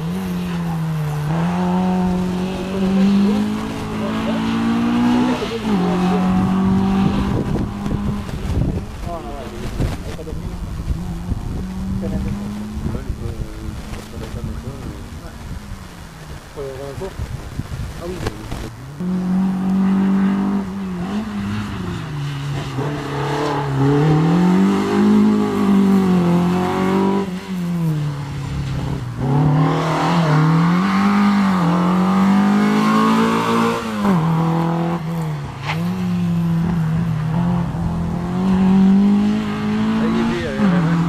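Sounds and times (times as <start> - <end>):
car engine revving hard: 0.0 - 15.1, 19.0 - 41.0.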